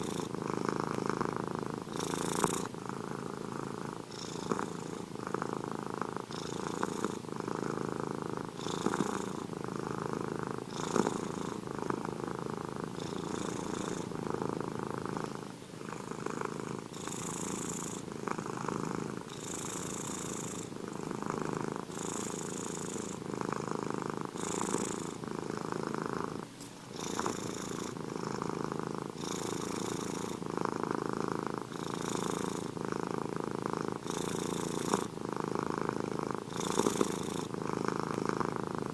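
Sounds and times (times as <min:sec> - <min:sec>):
breathy hiss: 0:00.0 - 0:38.9
cat purring: 0:00.0 - 0:38.9.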